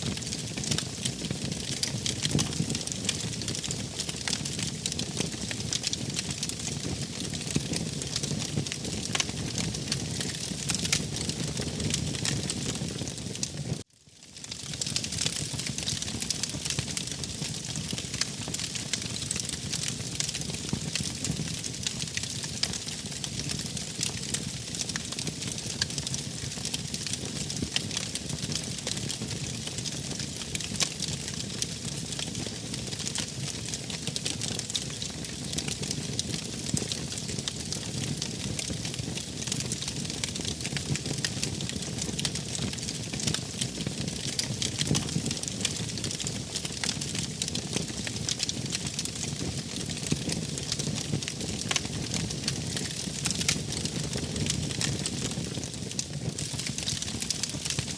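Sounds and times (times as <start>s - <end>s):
wood fire crackling: 0.1s - 57.9s.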